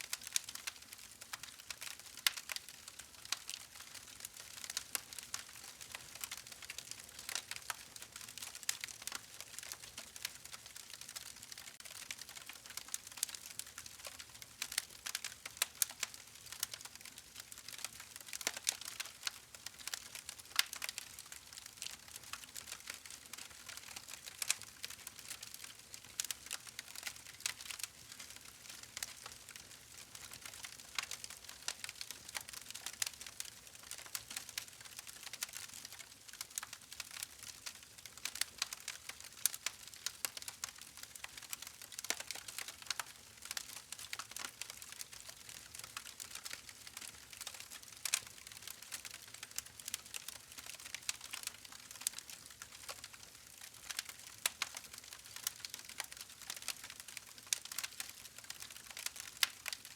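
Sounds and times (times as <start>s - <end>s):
wood fire crackling and popping: 0.1s - 59.9s.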